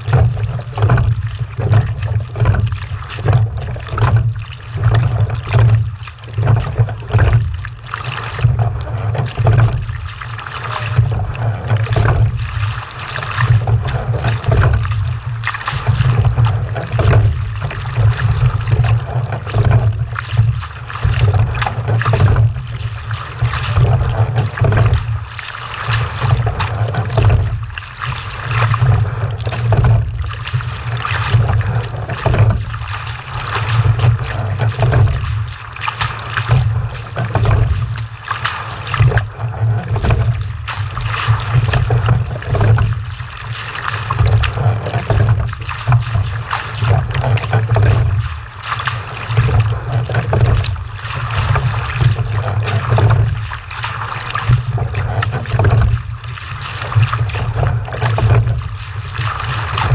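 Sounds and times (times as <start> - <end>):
steady low rumble: 0.0 - 59.9
water rushing and splashing: 0.0 - 59.9.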